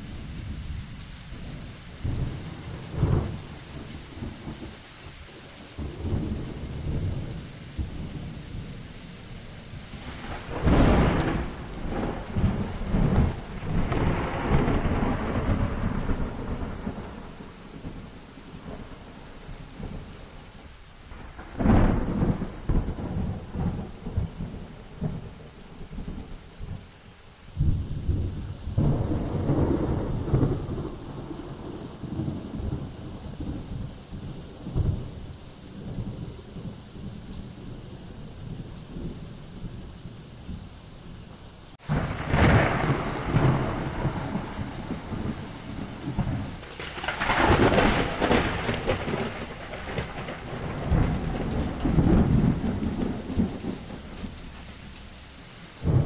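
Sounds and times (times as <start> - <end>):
rain falling: 0.0 - 56.0
thunder crack and rumble: 1.4 - 4.8, 5.8 - 8.8, 9.8 - 19.1, 21.1 - 26.8, 27.6 - 39.4, 41.8 - 55.1, 55.8 - 56.0.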